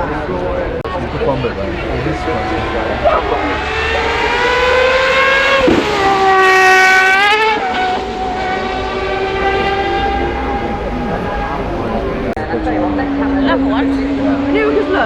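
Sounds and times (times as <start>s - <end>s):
car engine revving high: 0.9s - 15.0s.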